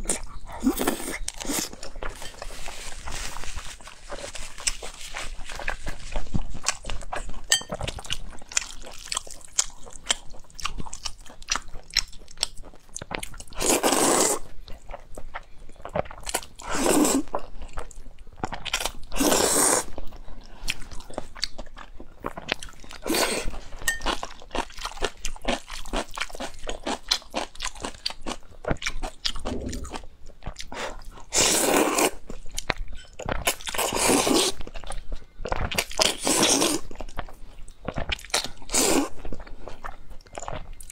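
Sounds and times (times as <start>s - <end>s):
wet chewing: 0.0s - 13.9s, 14.7s - 40.9s.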